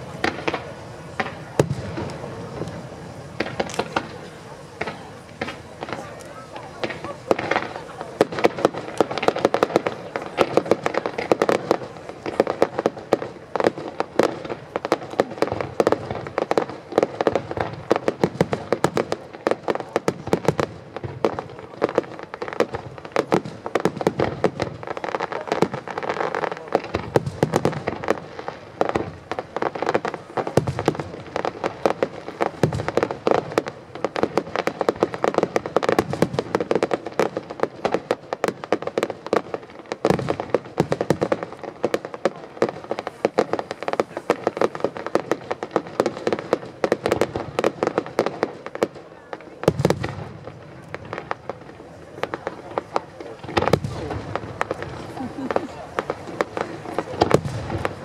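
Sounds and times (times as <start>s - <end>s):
fireworks cracking and popping: 0.0s - 58.0s.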